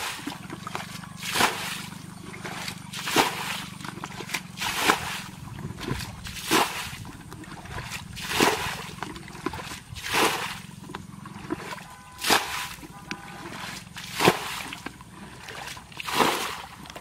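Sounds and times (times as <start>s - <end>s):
muddy water splashing: 0.0s - 17.0s.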